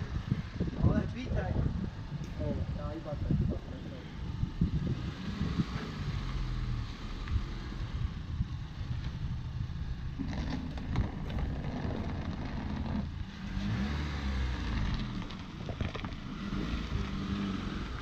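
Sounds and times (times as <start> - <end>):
car engine: 0.0 - 18.0.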